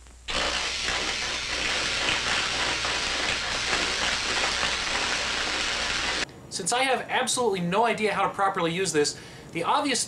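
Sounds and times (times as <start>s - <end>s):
crackling film hiss: 0.0s - 10.0s.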